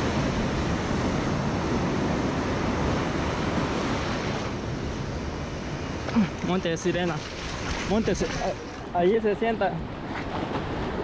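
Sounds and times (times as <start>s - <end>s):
seawater rushing around hull: 0.0s - 11.0s.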